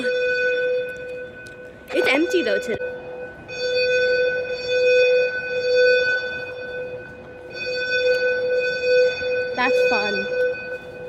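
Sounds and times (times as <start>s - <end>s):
fire alarm tone: 0.0s - 11.0s.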